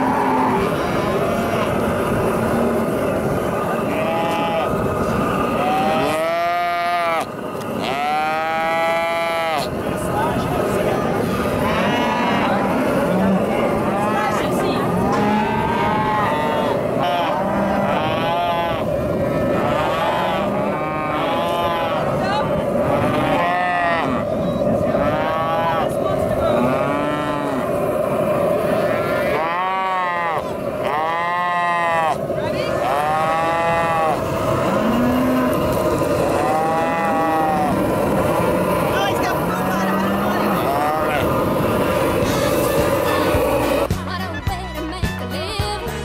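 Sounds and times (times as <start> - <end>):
cattle mooing: 0.0 - 3.1, 3.7 - 4.8, 5.4 - 9.7, 11.5 - 22.2, 22.8 - 27.8, 28.7 - 43.8
calves bawling: 0.0 - 43.9.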